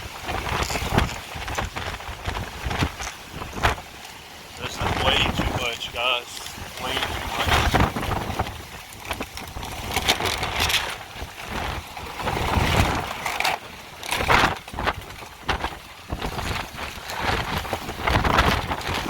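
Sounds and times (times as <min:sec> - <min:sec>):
strong wind gusting on microphone: 0:00.0 - 0:19.0.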